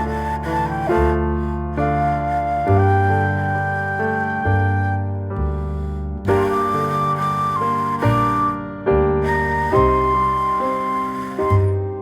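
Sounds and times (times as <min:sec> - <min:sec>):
soft piano notes: 0:00.0 - 0:12.0.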